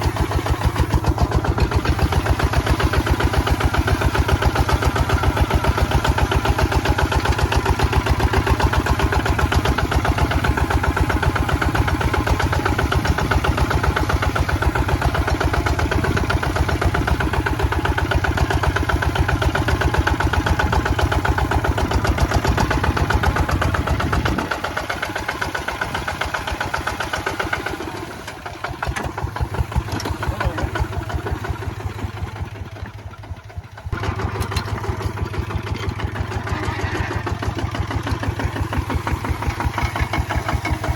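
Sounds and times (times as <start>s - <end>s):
diesel tractor engine chugging: 0.0s - 40.9s.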